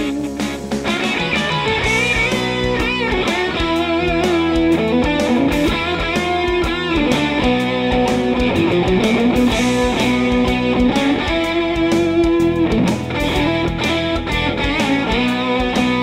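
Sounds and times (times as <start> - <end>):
electric guitar music: 0.0 - 16.0
steady drum beat: 0.0 - 16.0.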